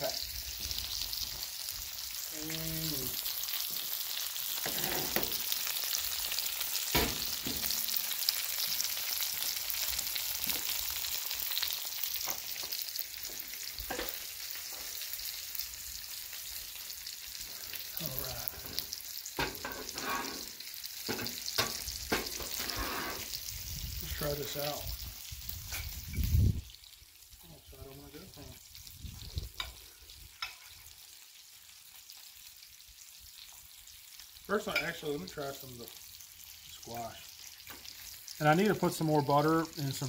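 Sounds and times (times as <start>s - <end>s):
meat sizzling on a griddle: 0.0s - 40.0s.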